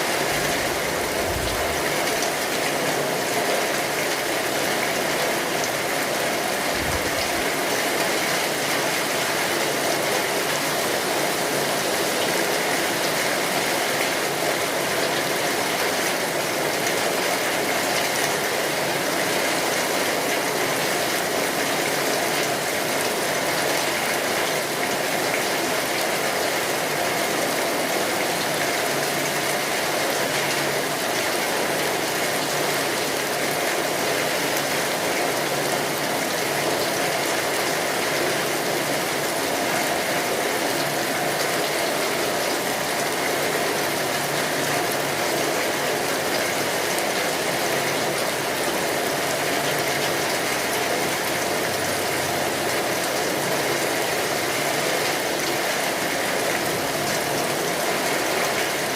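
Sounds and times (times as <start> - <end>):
heavy rain on a tin roof: 0.0 - 58.9.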